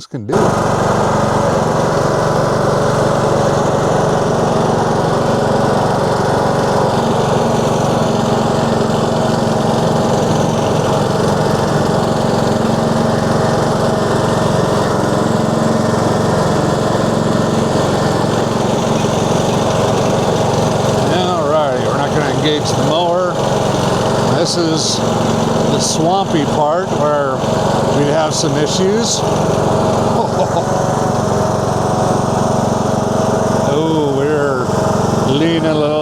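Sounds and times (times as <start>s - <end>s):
riding lawn mower engine running: 0.3s - 36.0s.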